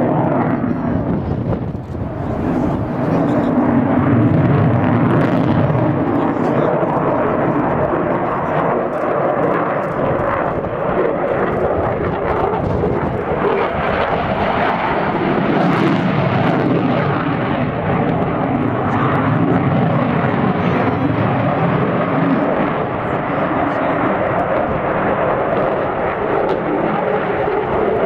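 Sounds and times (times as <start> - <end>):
jet fighter roaring overhead: 0.0 - 28.0.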